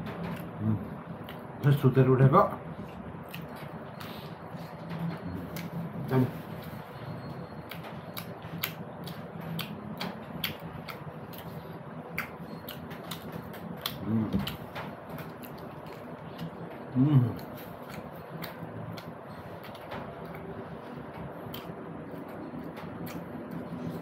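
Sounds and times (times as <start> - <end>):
person chewing crispy food: 2.8 - 24.0.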